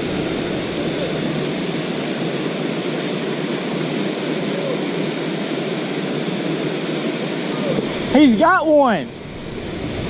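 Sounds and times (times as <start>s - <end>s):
waterfall rushing water: 0.0s - 10.0s.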